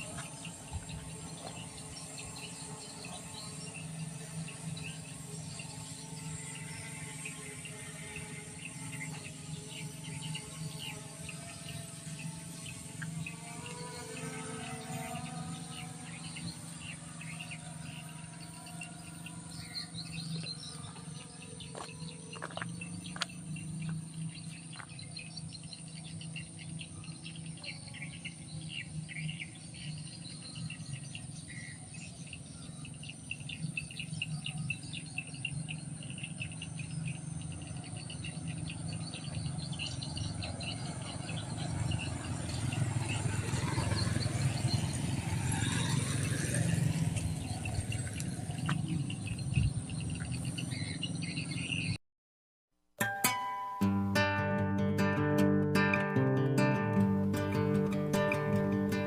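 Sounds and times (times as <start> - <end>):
birds chirping: 0.0 - 52.0, 53.0 - 59.0
insects chirping: 0.0 - 52.0, 53.3 - 59.0
steady low hum: 0.0 - 52.0.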